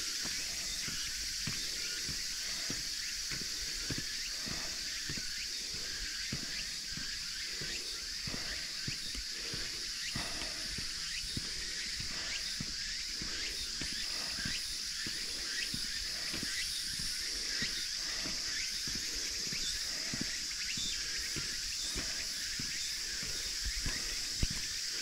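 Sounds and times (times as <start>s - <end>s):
footsteps on path: 0.0s - 25.0s
insects droning: 0.0s - 25.0s.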